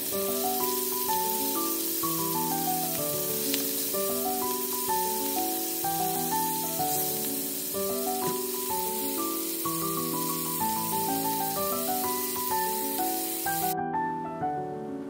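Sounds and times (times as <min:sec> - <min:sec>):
shrimp sizzling in oil: 0:00.0 - 0:13.8
background music: 0:00.0 - 0:15.0.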